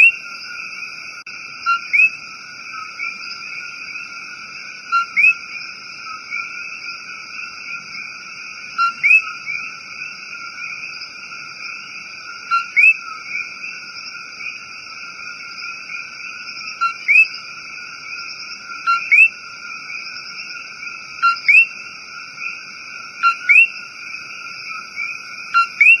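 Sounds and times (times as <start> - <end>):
distant frog chorus: 0.0 - 26.0.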